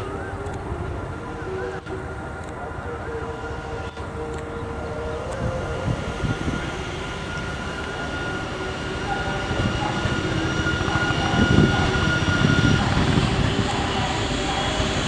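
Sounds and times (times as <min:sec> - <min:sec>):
electric locomotive whine: 0:00.0 - 0:15.0
wheels rumbling on rail: 0:00.0 - 0:15.0.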